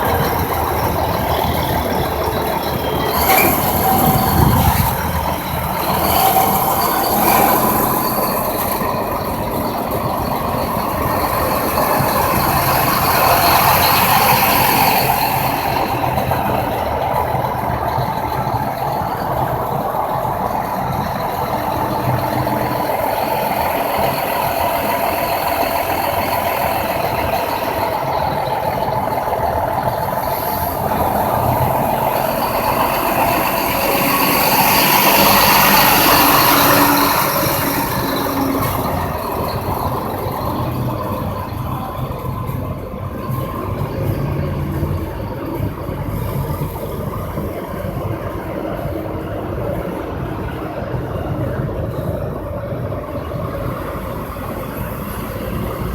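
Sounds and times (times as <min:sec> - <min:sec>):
truck engine and road noise: 0:00.0 - 0:55.9.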